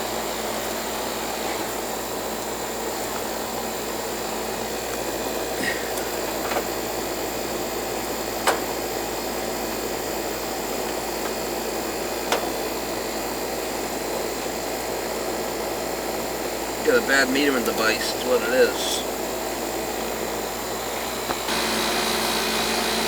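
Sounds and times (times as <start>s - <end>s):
air conditioner unit running: 0.0s - 23.0s.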